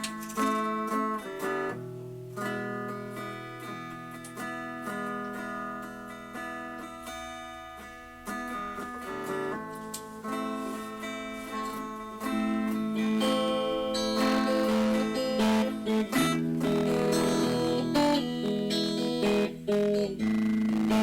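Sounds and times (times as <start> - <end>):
acoustic guitar blues: 0.0 - 21.0.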